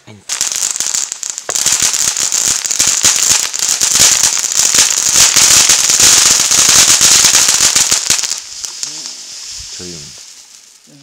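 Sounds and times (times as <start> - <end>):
firework fountain hissing and crackling: 0.1 - 11.0.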